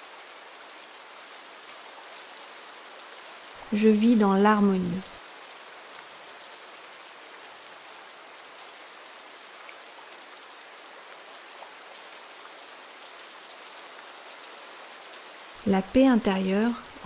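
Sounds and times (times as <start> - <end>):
steady rain in forest: 0.0 - 17.0.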